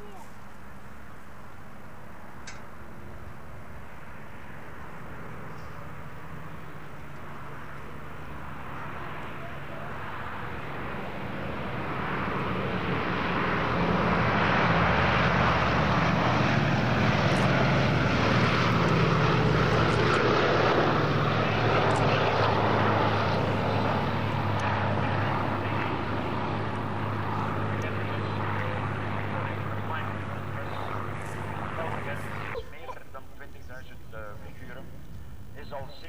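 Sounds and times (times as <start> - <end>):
propeller aircraft engines droning: 0.0 - 36.0.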